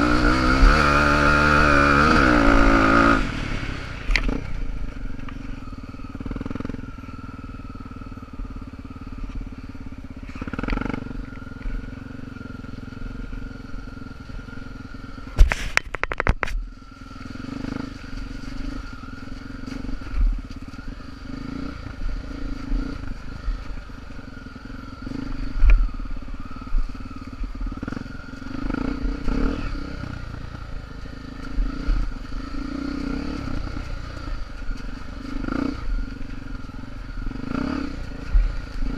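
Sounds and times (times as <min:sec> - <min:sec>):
motorcycle engines running: 0:00.0 - 0:38.9.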